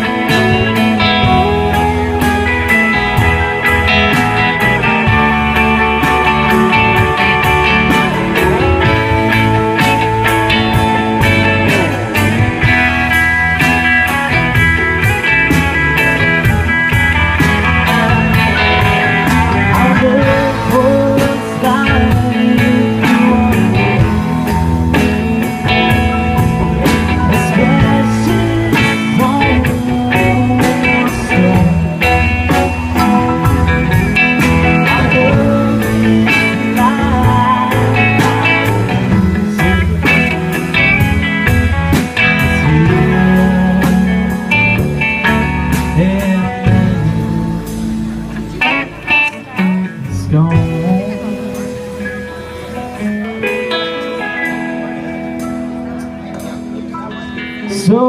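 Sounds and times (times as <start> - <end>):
drums keeping a steady beat: 0.0 - 58.0
electric guitars: 0.0 - 58.0
keyboard: 0.0 - 58.0.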